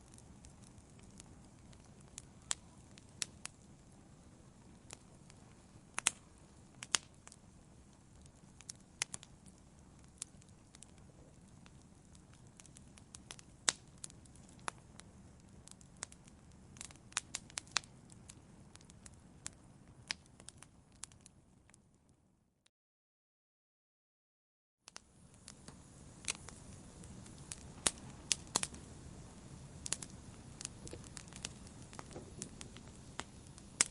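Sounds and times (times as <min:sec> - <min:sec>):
wood fire crackling and popping: 0:00.0 - 0:22.0, 0:24.9 - 0:33.9
low hiss and rumble of fire: 0:00.0 - 0:22.4, 0:24.9 - 0:33.9.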